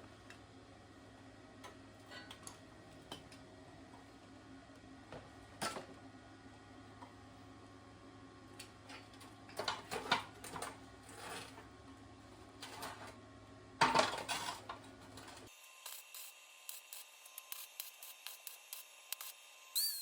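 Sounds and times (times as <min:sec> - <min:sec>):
steady background hum: 0:00.0 - 0:19.7.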